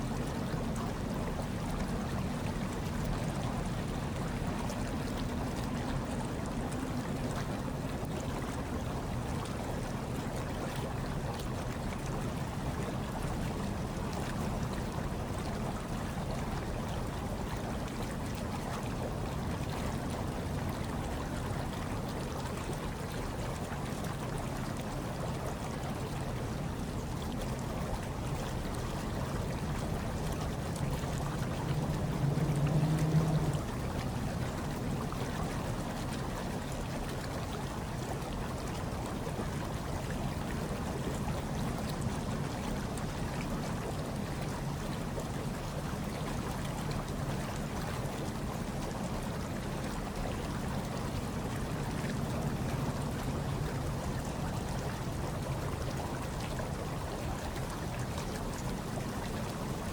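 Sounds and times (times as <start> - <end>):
hot tub water bubbling: 0.0 - 59.9
low steady hum: 0.0 - 59.9.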